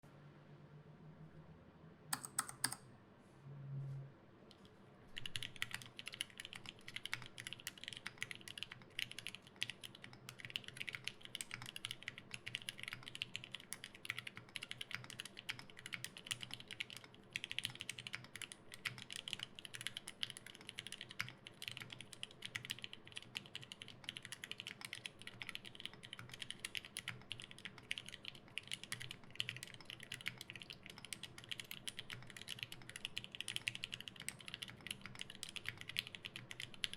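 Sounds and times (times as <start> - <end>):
fast mechanical keyboard typing: 2.2 - 2.8, 5.1 - 36.9.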